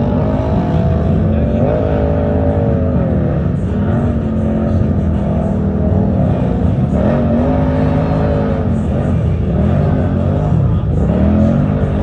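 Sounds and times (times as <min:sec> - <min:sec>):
race vehicle engines revving: 0:00.0 - 0:12.0.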